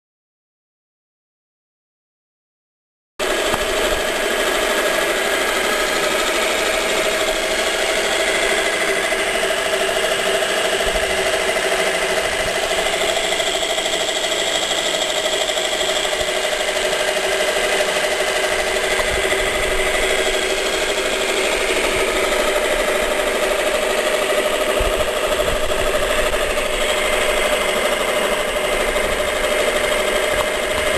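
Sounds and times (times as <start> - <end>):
scroll saw running: 3.2 - 30.9.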